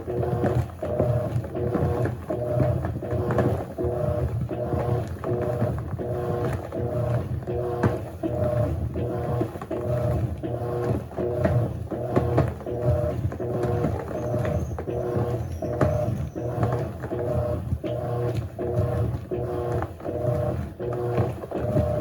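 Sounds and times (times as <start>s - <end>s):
washing machine motor churning: 0.0s - 22.0s.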